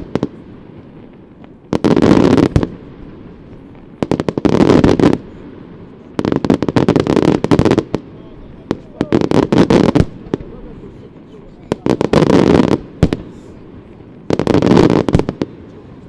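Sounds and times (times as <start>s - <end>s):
firework bangs: 0.0s - 16.0s.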